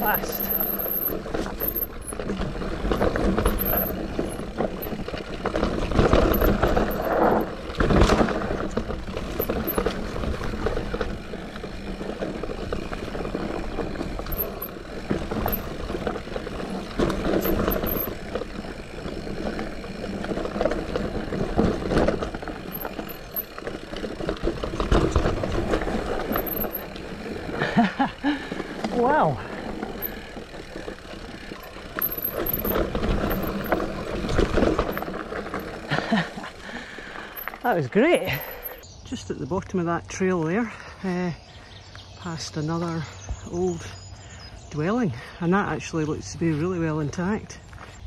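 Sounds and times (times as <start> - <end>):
bike knocking and rattling: 0.0 - 38.8
bike tyres rolling over dirt: 0.0 - 48.0.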